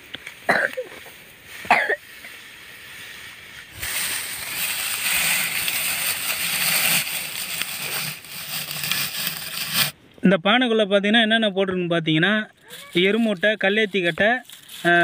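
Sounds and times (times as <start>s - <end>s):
dry straw rustling: 0.0s - 10.0s, 12.6s - 15.0s.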